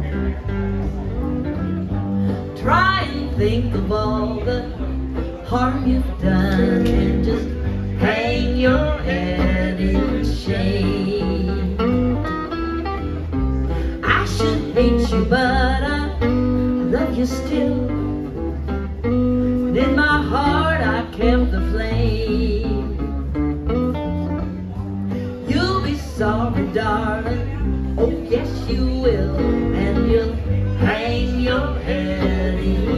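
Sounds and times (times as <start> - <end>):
country band playing: 0.0 - 32.9.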